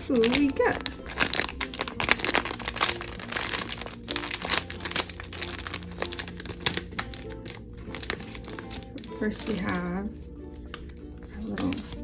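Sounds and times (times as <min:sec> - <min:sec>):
foil packet crinkling: 0:00.0 - 0:09.9, 0:10.7 - 0:12.0.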